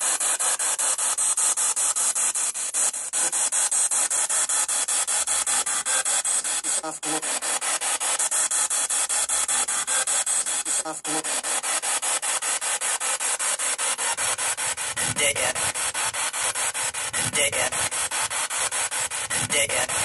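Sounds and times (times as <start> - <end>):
pulsing radio static: 0.0 - 20.0
snatches of broadcast sound: 0.0 - 20.0.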